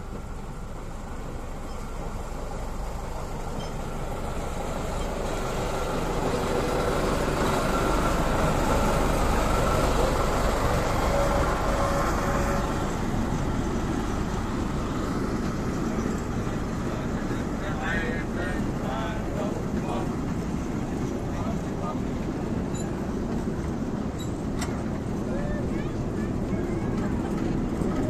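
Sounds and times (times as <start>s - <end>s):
diesel locomotive passing: 0.0s - 28.0s
wheels rolling on rails: 3.4s - 28.0s.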